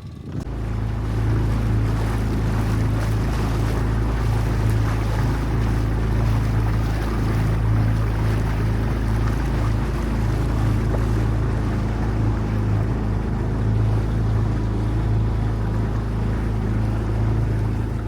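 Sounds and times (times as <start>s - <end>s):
boat engine running: 0.0s - 18.0s
water rushing past: 0.2s - 18.0s.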